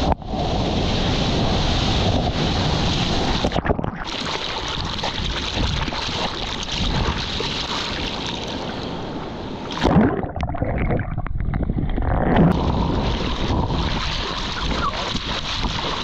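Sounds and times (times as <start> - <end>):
water splashing and rushing: 0.0 - 16.0
loud splash: 0.9 - 8.9, 9.6 - 11.2, 11.8 - 16.0
underwater gurgling: 1.4 - 16.0.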